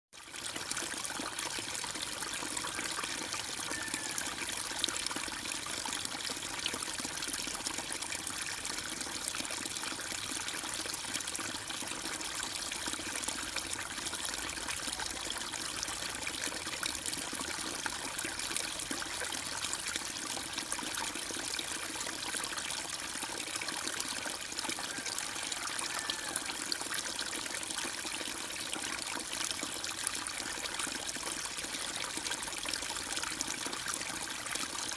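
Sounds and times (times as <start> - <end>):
water trickling into a pond: 0.1 - 34.9.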